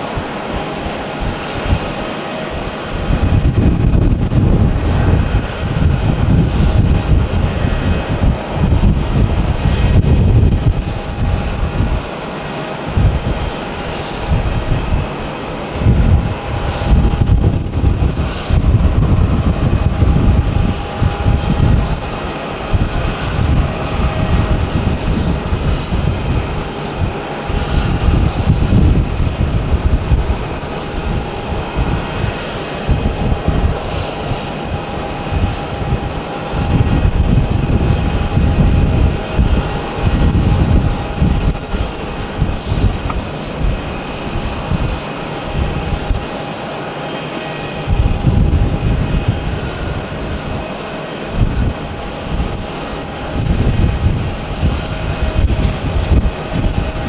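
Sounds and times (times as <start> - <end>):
jet engines whine and hum: 0.0 - 57.0
wind rumble on microphone: 0.0 - 57.0.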